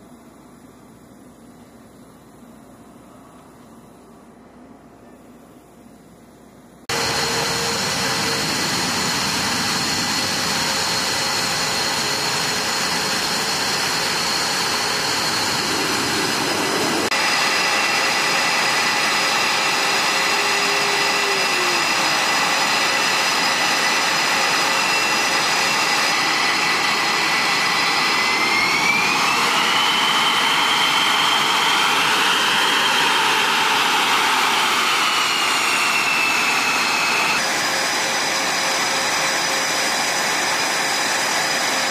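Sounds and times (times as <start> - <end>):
jet engines running: 6.9 - 41.9.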